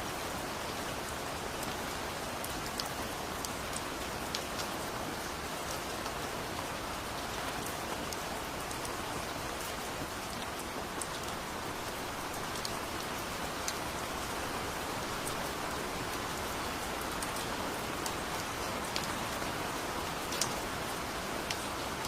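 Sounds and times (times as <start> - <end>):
steady rain falling: 0.0 - 22.0
raindrops ticking nearby: 0.7 - 22.0.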